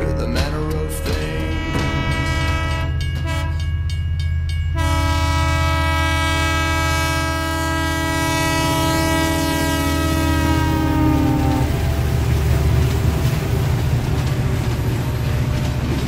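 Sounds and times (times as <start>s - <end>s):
train engine hum: 0.0s - 16.0s.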